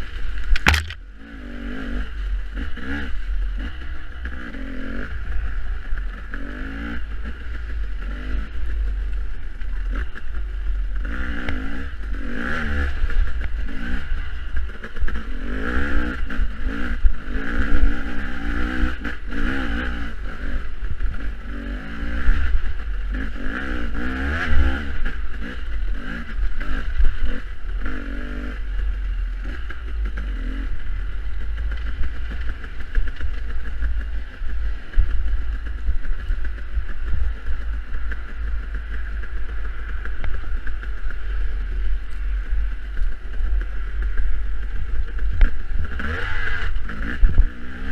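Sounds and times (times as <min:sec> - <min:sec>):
heavy low rumble: 0:00.0 - 0:47.9
dirt bike engine revving: 0:00.5 - 0:47.9.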